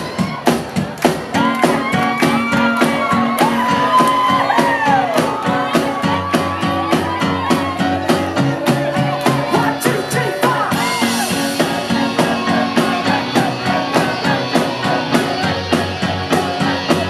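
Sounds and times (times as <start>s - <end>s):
crowd shouting: 0.0s - 17.0s
live rock band playing: 0.0s - 17.0s
steady drum beat: 0.0s - 17.0s.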